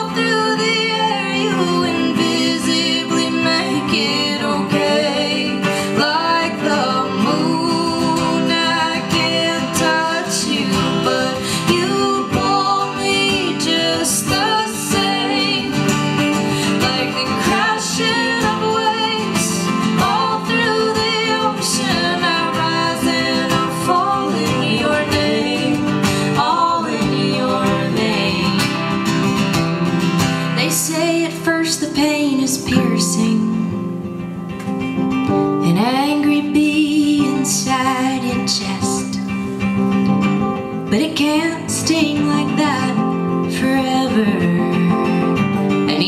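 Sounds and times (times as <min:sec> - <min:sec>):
acoustic guitar chords: 0:00.0 - 0:46.0
woman singing folk song: 0:00.0 - 0:46.0.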